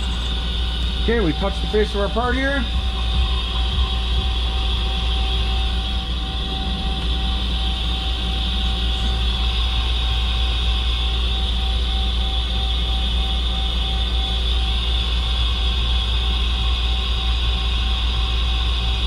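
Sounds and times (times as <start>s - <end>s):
lathe machine humming: 0.0s - 19.0s.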